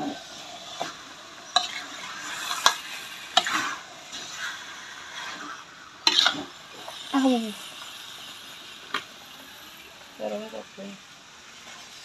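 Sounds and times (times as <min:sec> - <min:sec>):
spatula scraping wok: 0:00.0 - 0:09.7
sizzling in pan: 0:00.0 - 0:12.0.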